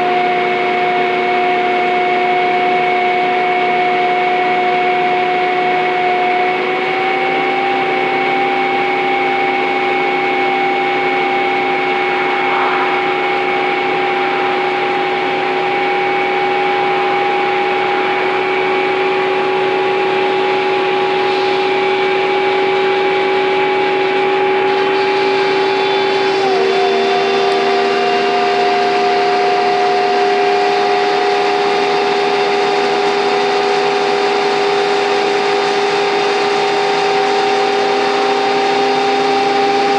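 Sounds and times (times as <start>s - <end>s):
bus engine whining under load: 0.0s - 39.9s.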